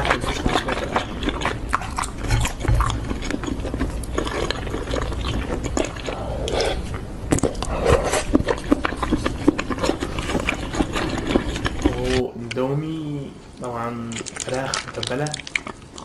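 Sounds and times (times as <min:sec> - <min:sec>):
person chewing and biting food: 0:00.0 - 0:12.6, 0:14.1 - 0:16.0.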